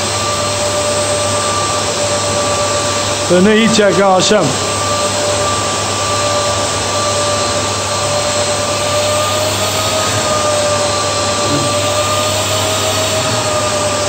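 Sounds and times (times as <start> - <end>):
blower rushing and whining: 0.0 - 14.0.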